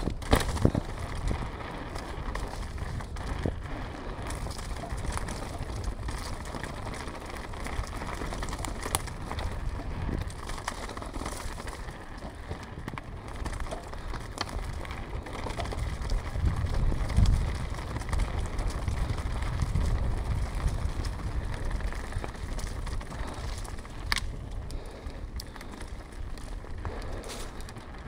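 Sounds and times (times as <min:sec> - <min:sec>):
bike rattling clicks: 0:00.0 - 0:28.0
bike tyres rolling on rough ground: 0:00.0 - 0:28.0.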